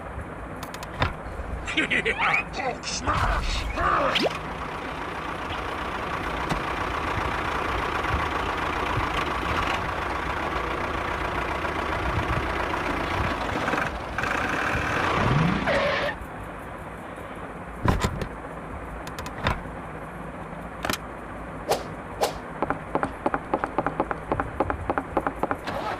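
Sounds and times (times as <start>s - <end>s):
rising engine whine: 0.0s - 25.8s
vehicle engine running: 0.0s - 25.9s.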